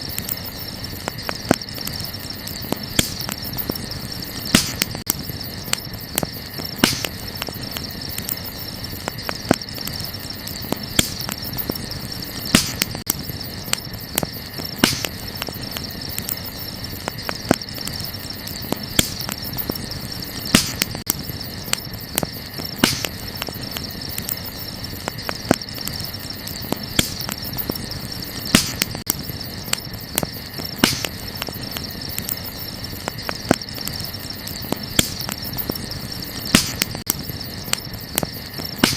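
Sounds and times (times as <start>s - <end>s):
campfire crackling: 0.0s - 38.9s
crickets chirping: 0.0s - 38.9s
sharp fire pops: 0.0s - 38.9s.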